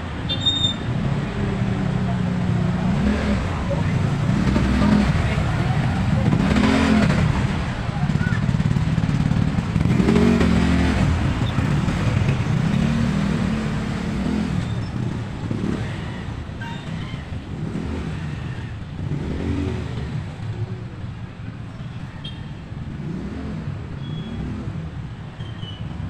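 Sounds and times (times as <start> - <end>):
motorcycles and scooters passing: 0.0 - 22.1.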